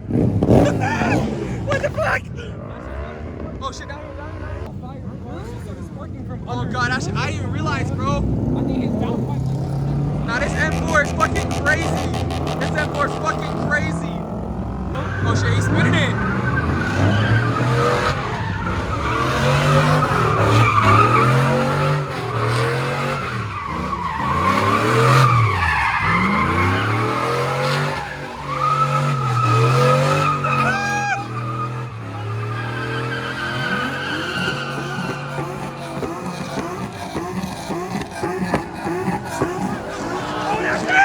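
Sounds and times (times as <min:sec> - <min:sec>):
car engine revving: 0:00.0 - 0:41.0
tyres squealing: 0:06.6 - 0:41.0.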